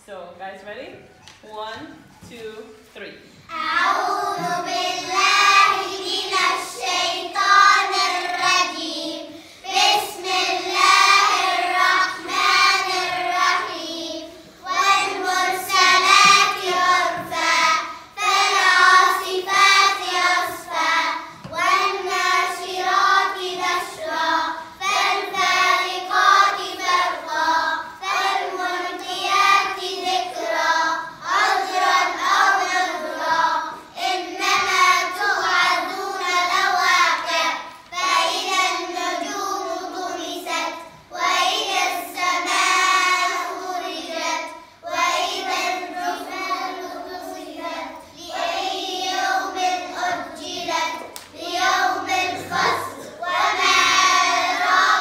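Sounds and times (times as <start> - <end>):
girls chanting in unison: 3.5 - 55.0.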